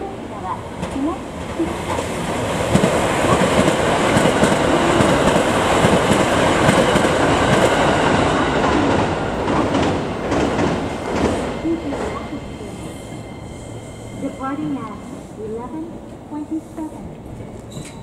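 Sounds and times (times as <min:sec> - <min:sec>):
electric train passing at speed: 0:00.0 - 0:18.0.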